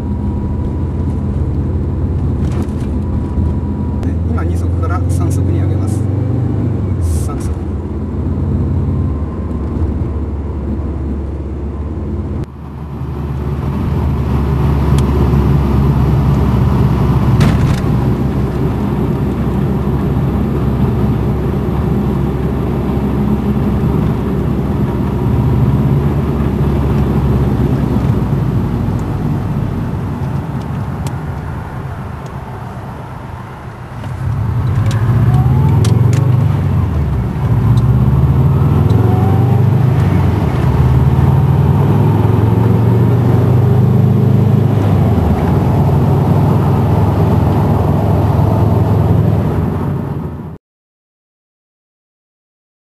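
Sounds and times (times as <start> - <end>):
turbocharged car engine driving: 0.0 - 50.6.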